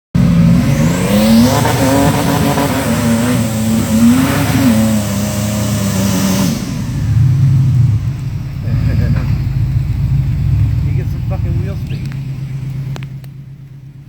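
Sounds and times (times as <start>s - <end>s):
engine revving hard: 0.2s - 13.0s.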